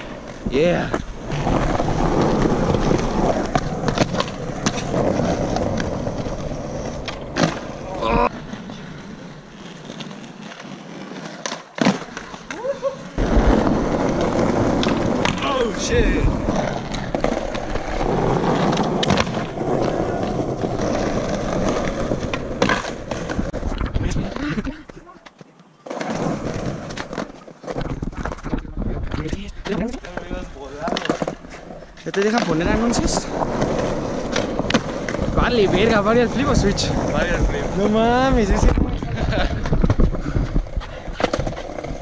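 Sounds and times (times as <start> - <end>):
skateboard wheels rolling on concrete: 0.0 - 42.0
skateboard clicks: 0.2 - 7.9, 8.5 - 15.6, 16.4 - 35.3.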